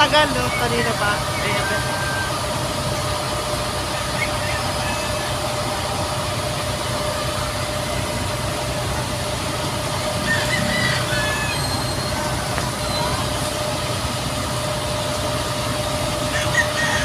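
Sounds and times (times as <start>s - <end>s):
high-pitched whine: 0.0s - 17.0s
vehicle running with low hum: 0.0s - 17.0s.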